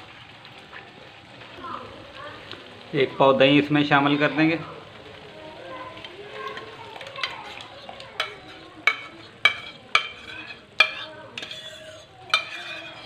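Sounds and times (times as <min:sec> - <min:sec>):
gravy sizzling in a pan: 0:00.0 - 0:13.0.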